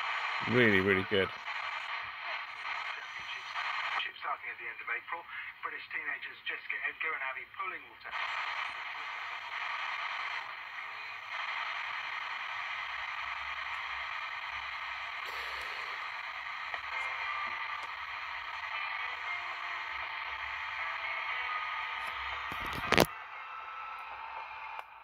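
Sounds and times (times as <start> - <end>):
radio static and hiss: 0.0 - 25.0.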